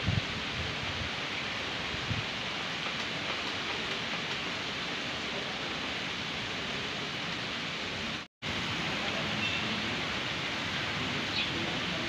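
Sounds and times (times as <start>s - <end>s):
rain falling on a pond: 0.0s - 12.0s.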